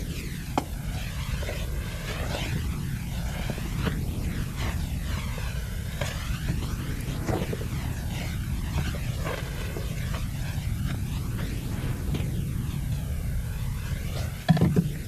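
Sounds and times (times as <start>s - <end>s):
low rumble: 0.0s - 15.0s
swirling sweeping hiss: 0.0s - 15.0s.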